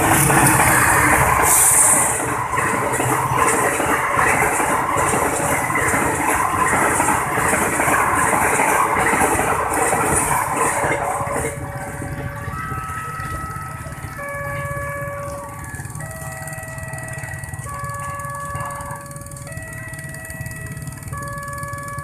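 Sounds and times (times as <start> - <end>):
train wheels clattering on rails: 0.0 - 22.0.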